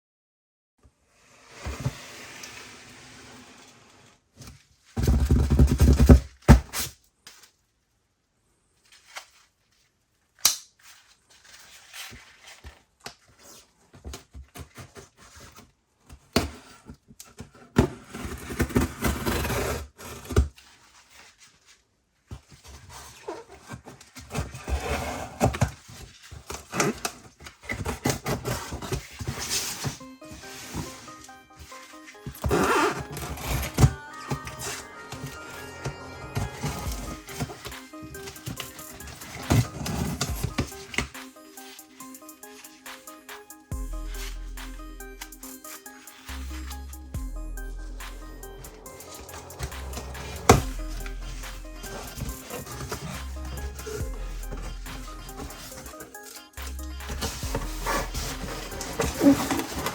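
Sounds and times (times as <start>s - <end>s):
packaging rustling and scraping: 1.5s - 7.6s, 8.8s - 43.5s, 48.6s - 59.9s.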